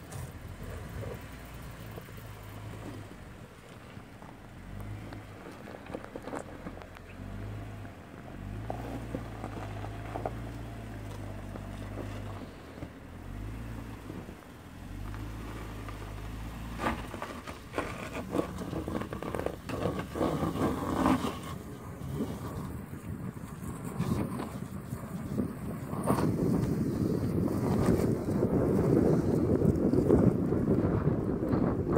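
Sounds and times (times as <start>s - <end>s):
car engine at low revs: 0.0s - 31.9s.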